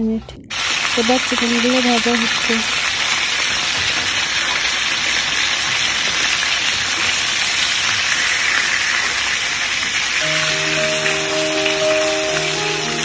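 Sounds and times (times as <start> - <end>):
chicken sizzling in hot oil: 0.5 - 13.0.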